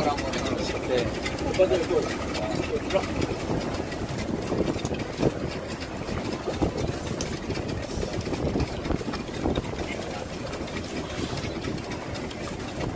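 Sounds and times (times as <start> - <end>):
boat engine idling: 0.0 - 12.9.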